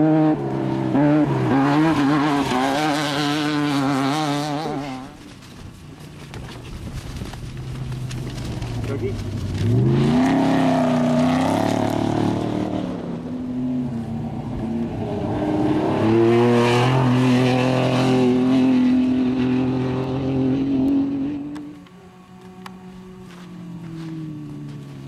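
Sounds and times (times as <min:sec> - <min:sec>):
race vehicle engine revving: 0:00.0 - 0:05.3, 0:08.1 - 0:25.0.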